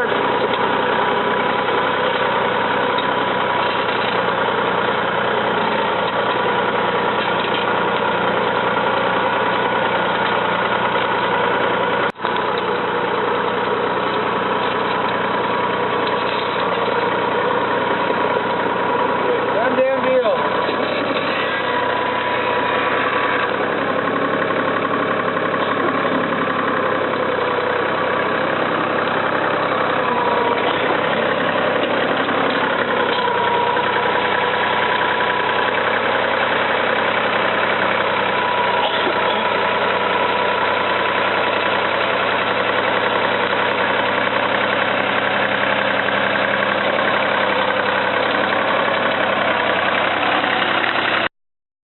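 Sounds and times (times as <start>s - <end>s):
tractor engine running: 0.0s - 51.3s.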